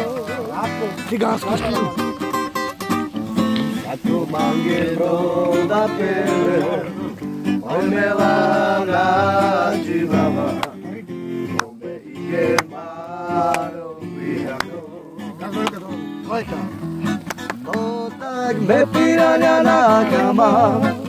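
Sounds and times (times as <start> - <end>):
man singing: 0.0 - 2.0, 3.7 - 16.9, 17.6 - 21.0
acoustic guitar strumming: 0.0 - 21.0.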